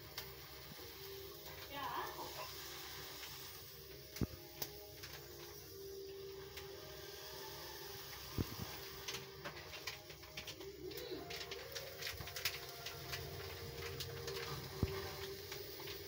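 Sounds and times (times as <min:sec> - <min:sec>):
apple crackling in flame: 0:00.0 - 0:16.0.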